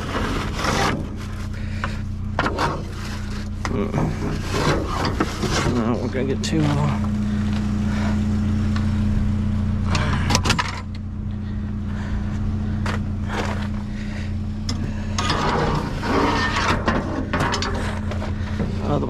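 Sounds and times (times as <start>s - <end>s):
rattles: 0.0s - 19.0s
vehicle engine idling: 0.0s - 19.0s.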